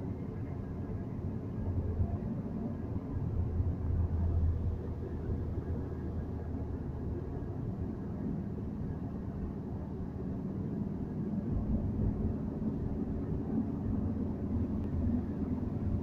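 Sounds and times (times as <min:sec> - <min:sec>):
vehicle cabin road rumble: 0:00.0 - 0:16.0.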